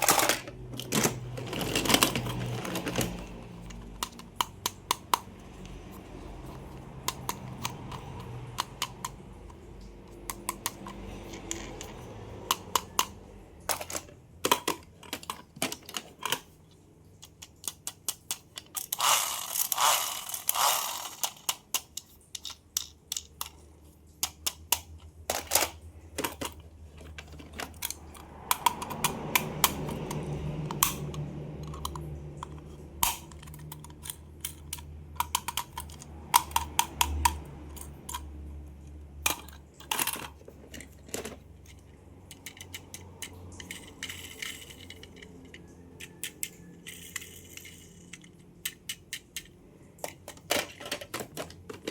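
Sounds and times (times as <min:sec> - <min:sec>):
plastic toys clicking and tapping: 0:00.0 - 0:51.9.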